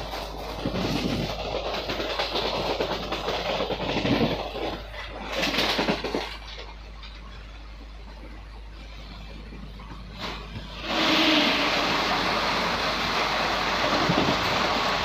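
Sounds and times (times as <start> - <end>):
train coach rattling: 0.0 - 15.0
train wheels on rails: 0.0 - 15.0.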